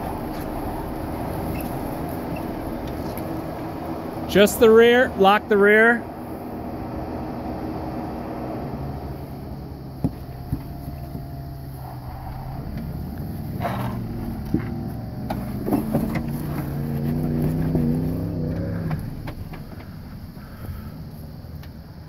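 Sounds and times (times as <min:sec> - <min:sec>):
engine running at low revs: 0:00.0 - 0:22.0.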